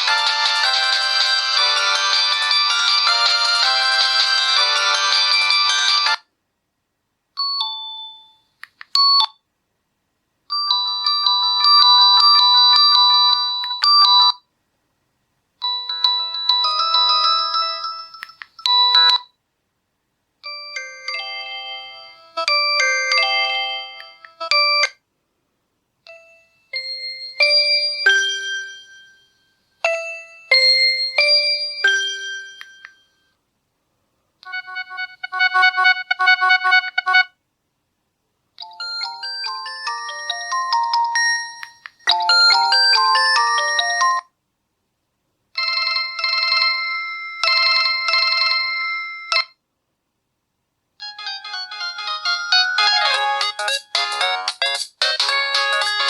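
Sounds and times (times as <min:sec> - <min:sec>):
phone ringtone melodies: 0:00.0 - 0:06.3, 0:07.4 - 0:09.3, 0:10.5 - 0:14.4, 0:15.6 - 0:19.3, 0:20.4 - 0:25.0, 0:26.1 - 0:33.3, 0:34.5 - 0:37.3, 0:38.6 - 0:44.3, 0:45.6 - 0:49.6, 0:51.0 - 0:56.0.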